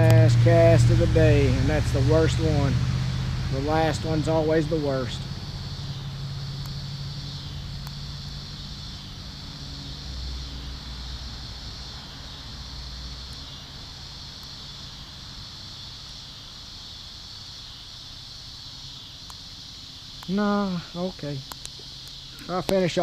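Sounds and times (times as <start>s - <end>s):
background hiss: 0.0s - 23.0s
insects chirring: 0.0s - 23.0s.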